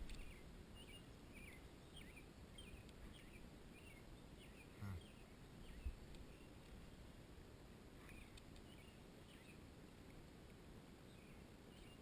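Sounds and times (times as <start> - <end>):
faint bird chirps: 0.0 - 7.0, 8.0 - 9.7, 11.0 - 12.0.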